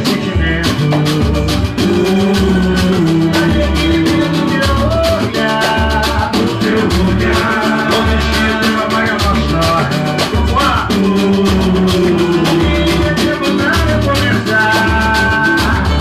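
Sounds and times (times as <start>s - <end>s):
band music with percussion beat: 0.0s - 16.0s.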